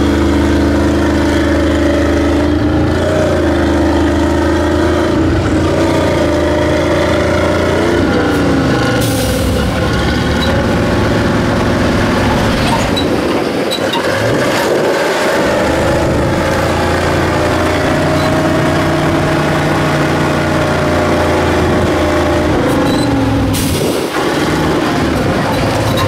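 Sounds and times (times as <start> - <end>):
truck engine running under load: 0.0 - 26.0.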